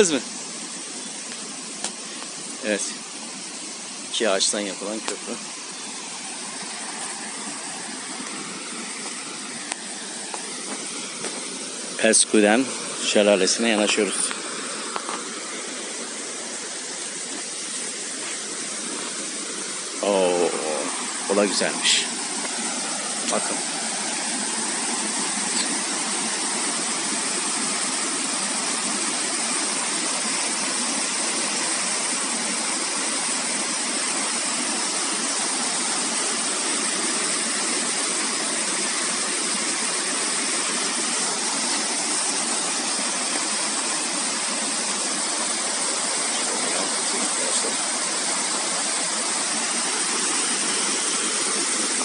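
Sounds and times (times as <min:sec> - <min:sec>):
waterfall rushing over rocks: 0:00.0 - 0:52.0.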